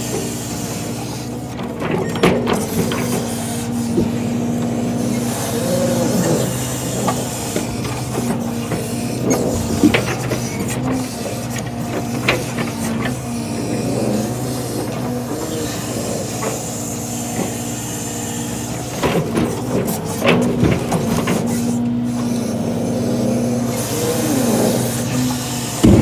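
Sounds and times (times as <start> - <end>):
diesel truck engine running: 0.0 - 26.0
hydraulic whine: 0.0 - 26.0.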